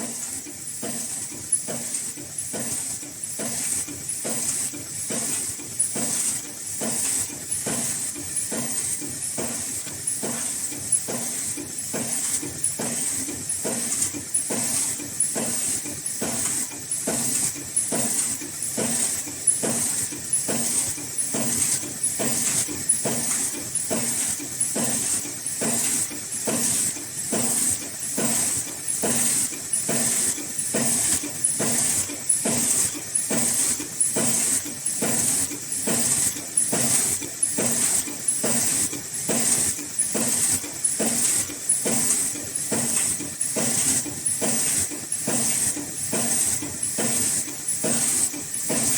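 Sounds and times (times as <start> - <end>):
machine mechanical beat: 0.0 - 48.9.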